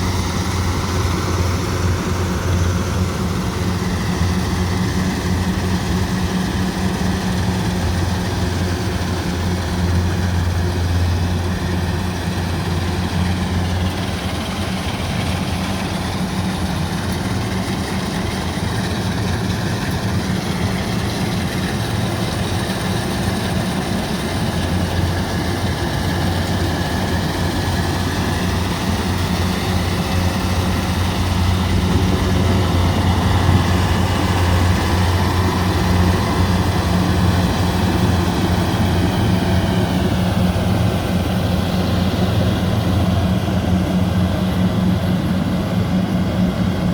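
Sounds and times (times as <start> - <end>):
combine harvester engine droning: 0.0 - 46.9.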